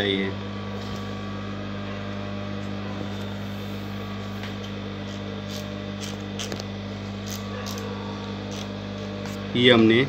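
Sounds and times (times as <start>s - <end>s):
sewing machine motor hum: 0.3s - 10.0s.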